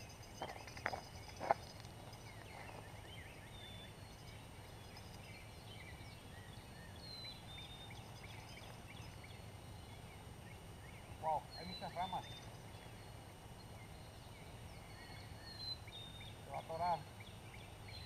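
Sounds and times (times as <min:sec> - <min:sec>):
birds chirping and whistling: 0:00.0 - 0:18.0.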